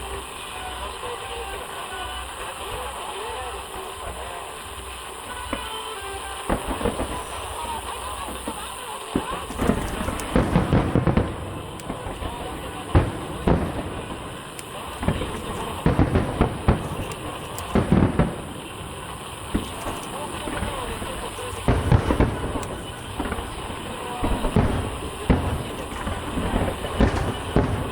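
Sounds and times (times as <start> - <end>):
fireworks shells bursting: 0.0 - 27.9.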